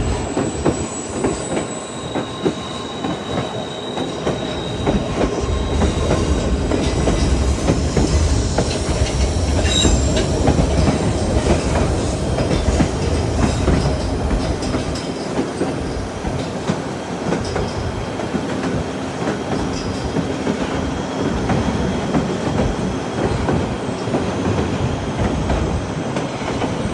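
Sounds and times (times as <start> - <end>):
train wheel squeal: 0.0 - 26.9
train wheels rumbling on rails: 0.0 - 26.9.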